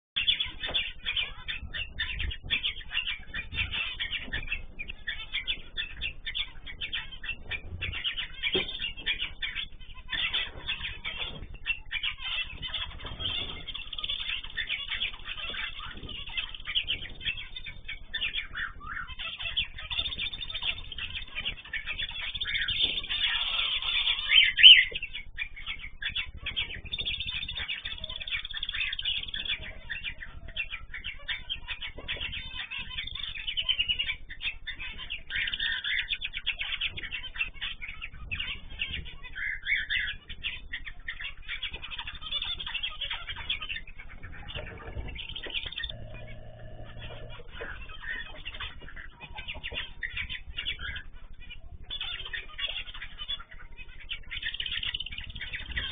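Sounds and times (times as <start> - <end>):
small birds chattering and chirping: 0.2 - 55.9.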